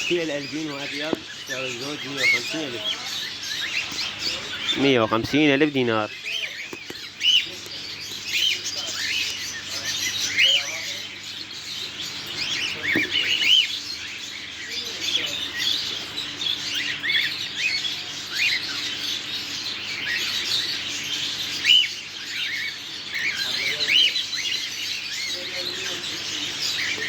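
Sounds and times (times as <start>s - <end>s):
birds chirping and chattering: 0.0s - 27.0s.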